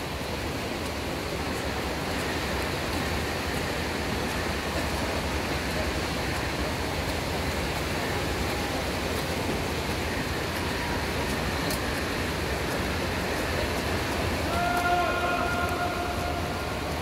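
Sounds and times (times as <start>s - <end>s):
swimming pool venue rushing noise: 0.0s - 17.0s.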